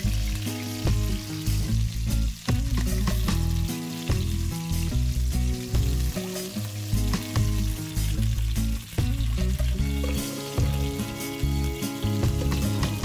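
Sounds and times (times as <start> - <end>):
background music: 0.0 - 13.0
chicken sizzling in hot oil: 0.0 - 13.0.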